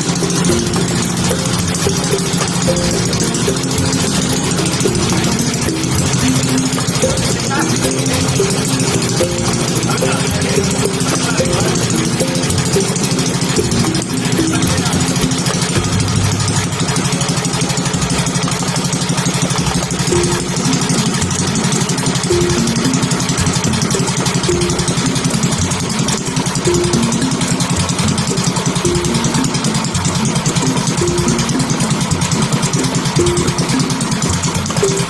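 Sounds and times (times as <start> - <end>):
single-cylinder engine running: 0.0 - 35.0.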